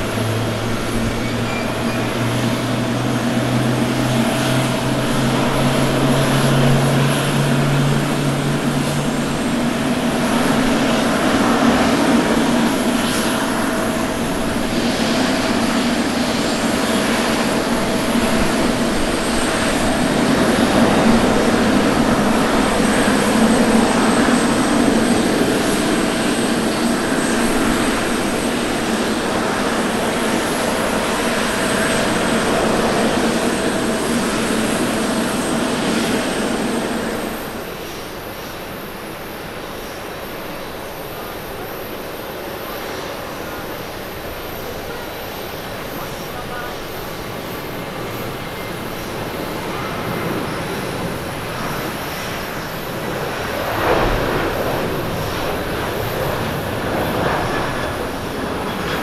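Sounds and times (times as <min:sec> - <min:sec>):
jet engines at takeoff thrust: 0:00.0 - 0:59.0
quieter jet engine noise: 0:00.0 - 0:59.0.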